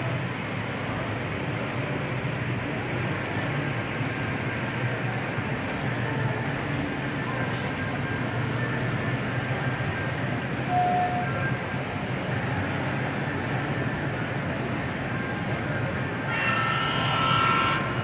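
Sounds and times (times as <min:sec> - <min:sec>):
hall background noise: 0:00.0 - 0:18.0
model trains humming and rumbling: 0:00.0 - 0:18.0.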